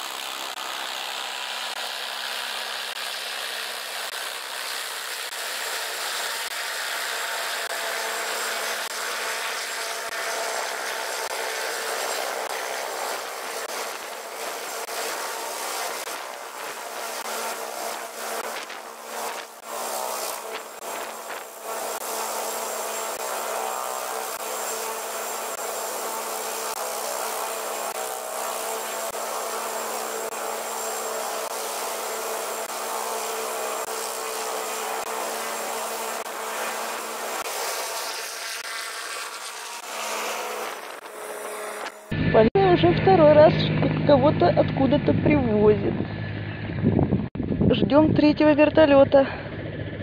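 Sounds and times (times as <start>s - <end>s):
helicopter droning whine: 0.0s - 50.0s.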